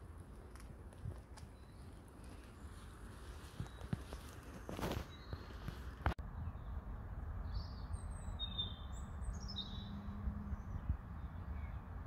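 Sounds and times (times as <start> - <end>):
small birds chirping: 1.1 - 12.0.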